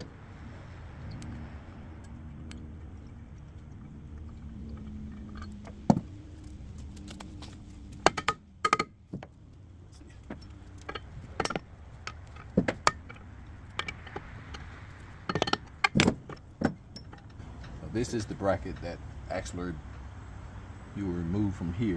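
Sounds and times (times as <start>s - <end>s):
low steady hum: 0.0s - 21.9s
metal clinks and clanks: 1.0s - 9.4s, 10.1s - 20.1s.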